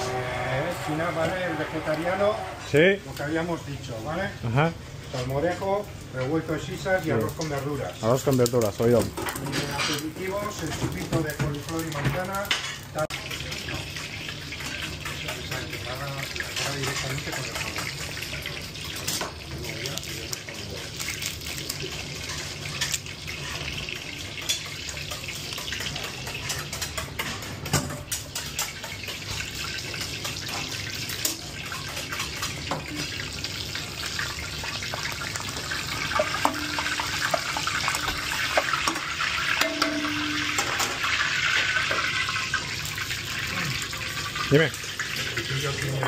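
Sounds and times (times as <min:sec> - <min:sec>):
oil sizzling in frying pan: 0:00.0 - 0:46.0.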